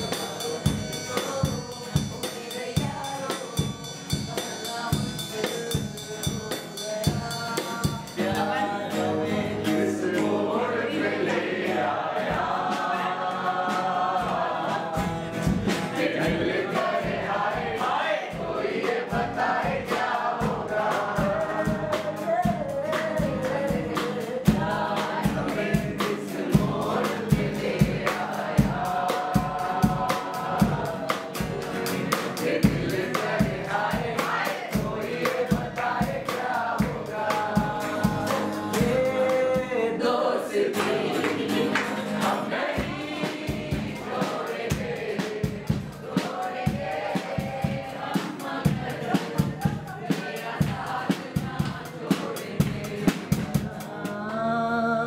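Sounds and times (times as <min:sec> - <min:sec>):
live band playing: 0:00.0 - 0:10.5, 0:14.8 - 0:17.6, 0:19.1 - 0:39.9, 0:40.8 - 0:54.3
drum kit beat: 0:00.0 - 0:39.9, 0:40.6 - 0:54.3
group of people singing: 0:00.0 - 0:55.0.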